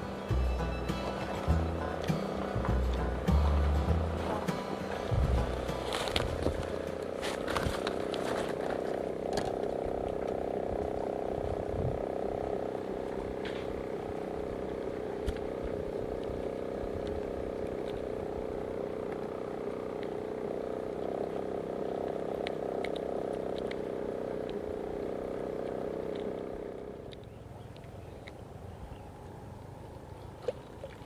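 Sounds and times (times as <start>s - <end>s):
small engine running: 0.0s - 30.4s.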